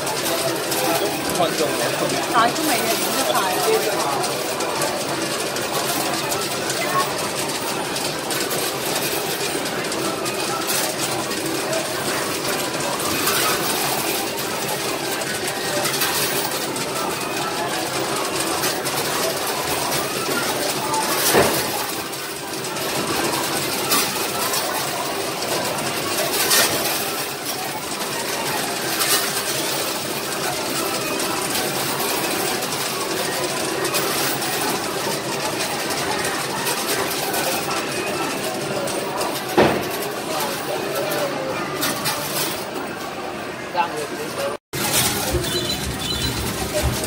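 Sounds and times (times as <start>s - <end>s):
busy arcade din: 0.0s - 47.0s
coin pusher machine whirring: 0.0s - 47.0s.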